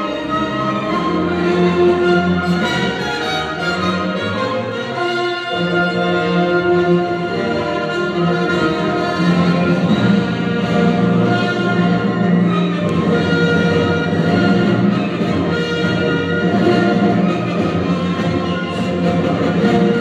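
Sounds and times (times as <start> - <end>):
orchestral strings holding notes: 0.0 - 20.0.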